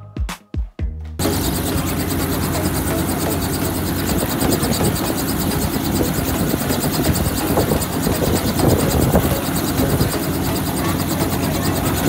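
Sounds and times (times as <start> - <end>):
helicopter rotor chopping: 1.2 - 12.0.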